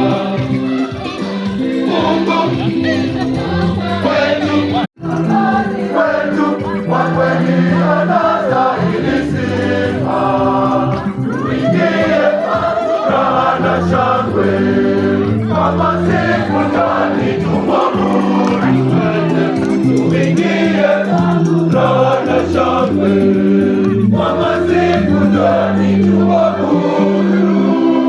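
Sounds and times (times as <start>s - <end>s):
choir singing gospel: 0.0s - 28.0s.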